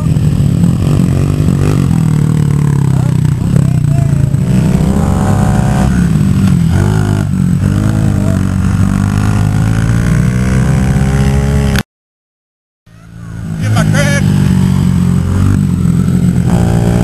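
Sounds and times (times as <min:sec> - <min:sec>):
minibike engine revving: 0:00.0 - 0:11.8, 0:12.9 - 0:17.0.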